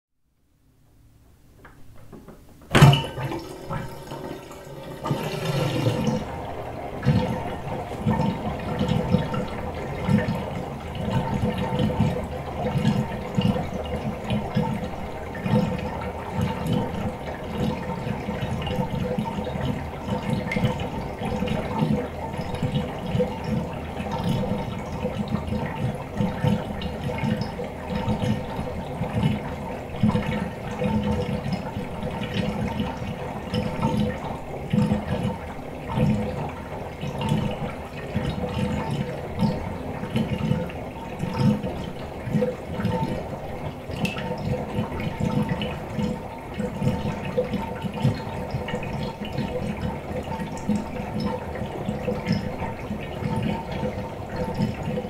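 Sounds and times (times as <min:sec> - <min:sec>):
water gurgling down drain: 0:02.7 - 0:55.0.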